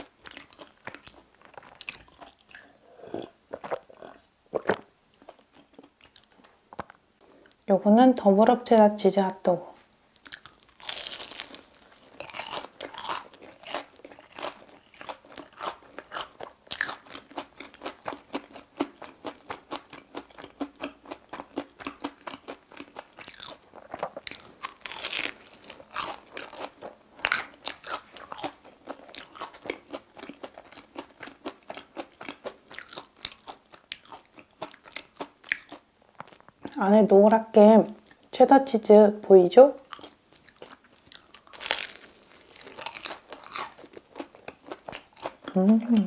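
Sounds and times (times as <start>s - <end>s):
crunchy biting and chewing: 0.0s - 7.0s, 10.2s - 36.7s, 39.8s - 46.0s.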